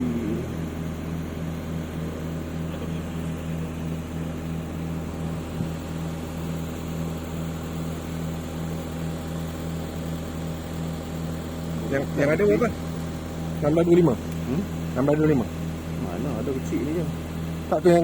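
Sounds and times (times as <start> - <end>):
pulsing machine drone: 0.0 - 18.0.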